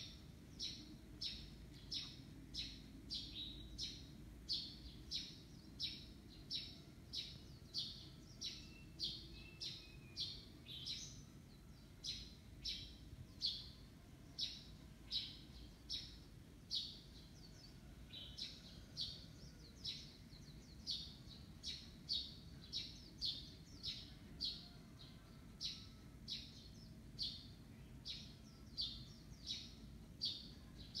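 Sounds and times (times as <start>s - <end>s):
small bird chirping: 0.0s - 13.8s, 14.4s - 17.6s, 18.2s - 24.2s, 25.6s - 31.0s.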